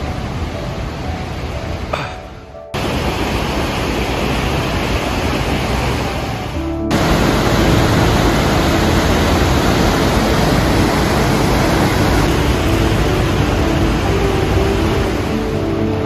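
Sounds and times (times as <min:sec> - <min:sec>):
rushing water: 0:00.0 - 0:16.0.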